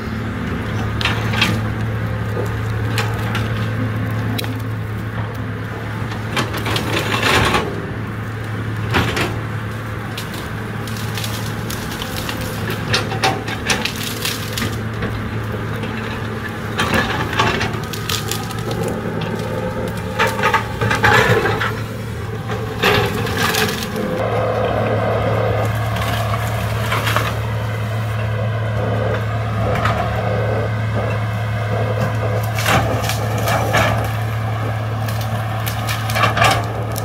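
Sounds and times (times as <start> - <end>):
cracking and crunching of wood and earth: 0.0 - 37.0
excavator diesel engine running: 0.0 - 37.0.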